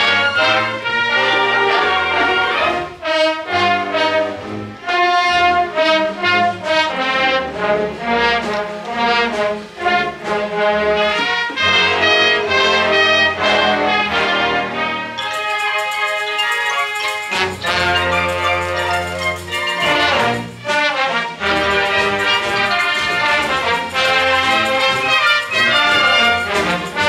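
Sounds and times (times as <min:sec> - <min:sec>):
brass instruments: 0:00.0 - 0:27.0
orchestra playing film music: 0:00.0 - 0:27.0.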